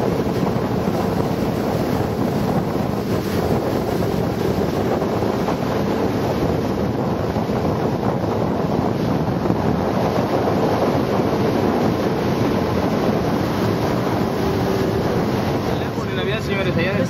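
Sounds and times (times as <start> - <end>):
motor boat engine drone: 0.0 - 17.0
water rushing past hull: 0.0 - 17.0
wind buffeting microphone: 0.0 - 17.0.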